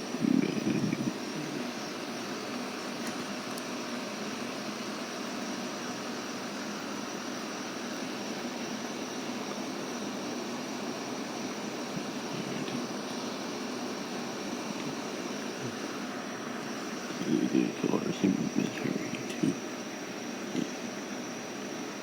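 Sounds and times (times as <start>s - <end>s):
air-conditioner fan whoosh and hum: 0.0s - 22.0s.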